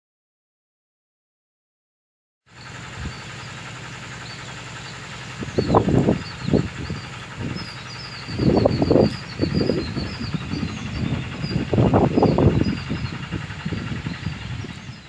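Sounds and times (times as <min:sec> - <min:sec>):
loud low rumbles: 0:02.5 - 0:15.0
birds chirping: 0:02.6 - 0:15.0
low hum: 0:02.6 - 0:15.0.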